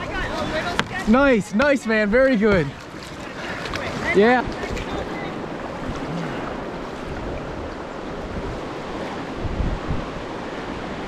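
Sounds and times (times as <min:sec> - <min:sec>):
creek water rushing and lapping: 0:00.0 - 0:11.0
wind buffeting microphone: 0:00.0 - 0:11.0.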